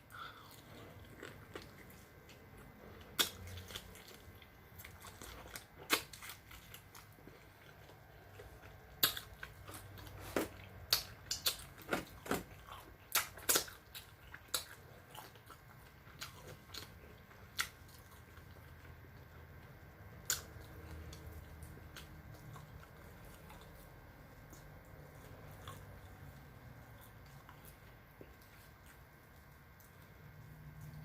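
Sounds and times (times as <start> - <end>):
crunching bites and chewing: 0.1 - 31.0.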